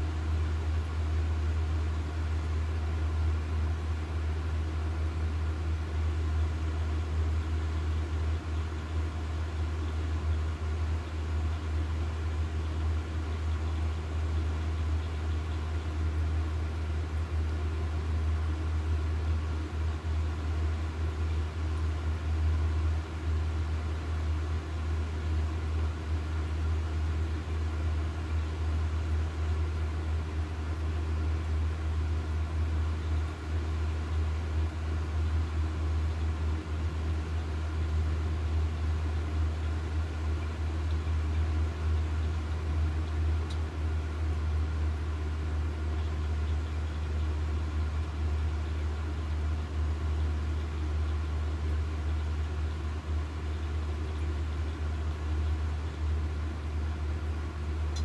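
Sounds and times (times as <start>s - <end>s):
constant hum: 0.0s - 58.0s.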